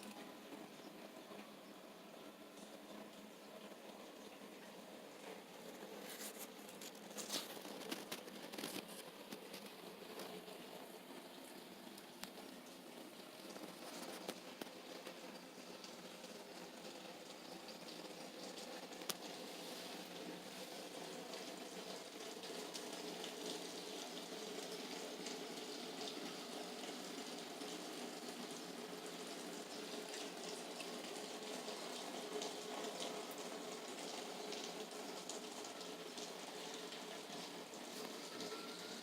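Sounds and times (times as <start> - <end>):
light ticks of raindrops: 0.0 - 39.0
steady rain falling: 0.0 - 39.0.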